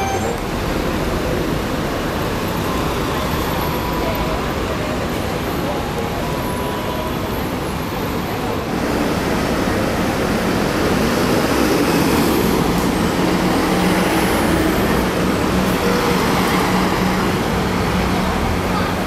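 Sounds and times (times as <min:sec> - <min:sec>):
bus engine running: 0:00.0 - 0:19.0
road noise: 0:00.0 - 0:19.0.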